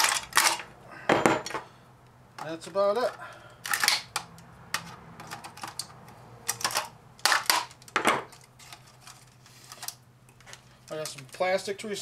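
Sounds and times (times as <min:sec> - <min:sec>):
plastic and metal parts clattering: 0:00.0 - 0:01.7, 0:02.4 - 0:11.5.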